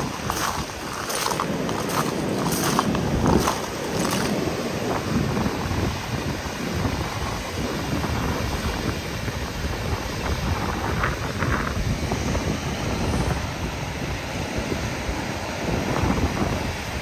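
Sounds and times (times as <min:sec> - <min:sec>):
surf breaking on a beach: 0:00.0 - 0:17.0
wind rumbling on microphone: 0:00.0 - 0:17.0.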